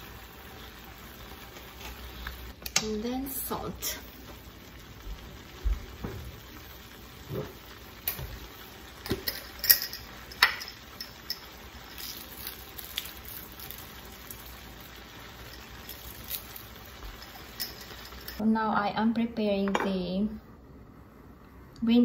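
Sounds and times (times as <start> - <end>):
shrimp sizzling in frying pan: 0.0 - 18.4.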